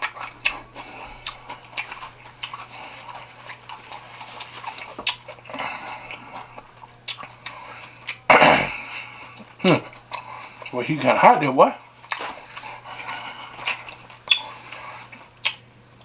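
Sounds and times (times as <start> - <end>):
faint low hum: 0.0 - 16.0
person chewing food: 0.0 - 16.0.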